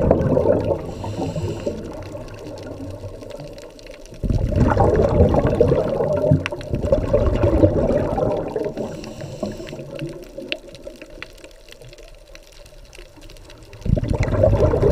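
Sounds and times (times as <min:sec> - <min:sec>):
diver's exhaled bubbles underwater: 0:00.0 - 0:12.1, 0:12.8 - 0:14.9.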